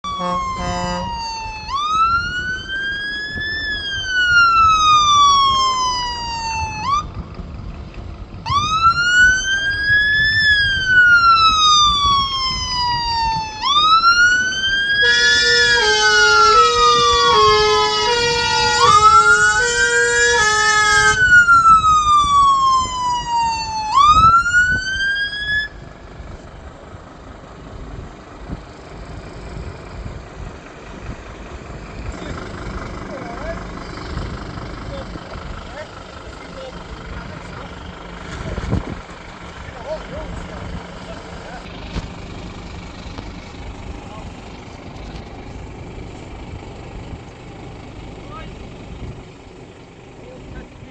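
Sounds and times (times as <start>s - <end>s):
fire engine siren wailing: 0.0s - 50.9s
vehicle and street rumble: 0.0s - 50.9s.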